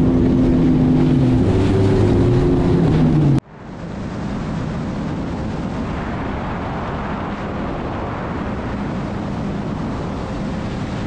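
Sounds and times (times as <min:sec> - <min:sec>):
jet ski engine drone: 0:00.0 - 0:11.0
wind: 0:00.0 - 0:11.0.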